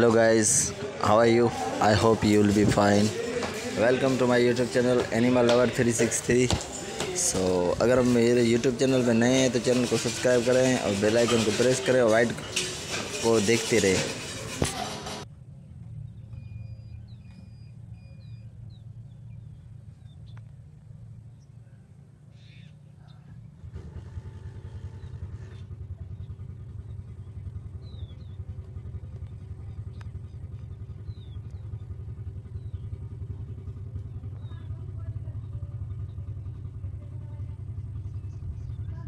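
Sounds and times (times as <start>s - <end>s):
low steady rumble: 0.0s - 39.0s.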